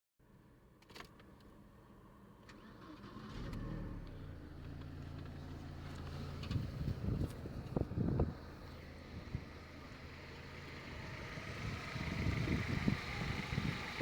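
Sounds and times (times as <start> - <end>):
car engine starting and idling: 0.8 - 14.0.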